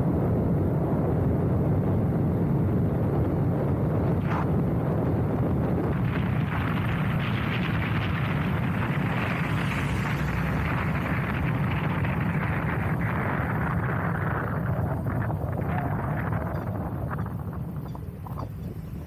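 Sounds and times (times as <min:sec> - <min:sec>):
motorcycle engine droning: 0:00.0 - 0:19.0
wind rushing over microphone: 0:00.0 - 0:19.0.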